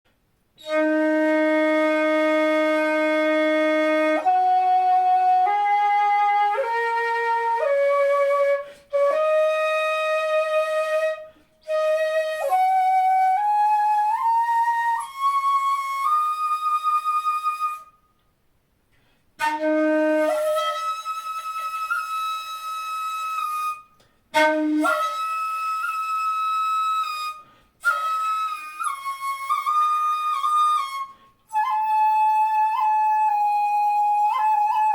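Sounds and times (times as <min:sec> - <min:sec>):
bamboo flute played solo: 0:00.6 - 0:18.1, 0:19.4 - 0:34.9.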